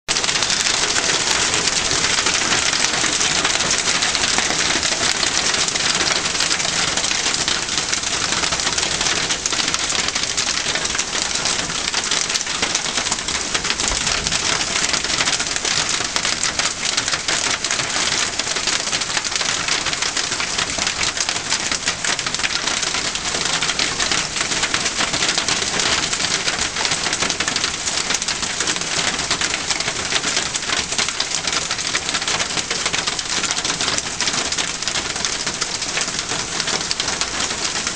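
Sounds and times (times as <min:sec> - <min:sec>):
hail pelting dry leaves: 0:00.1 - 0:37.9.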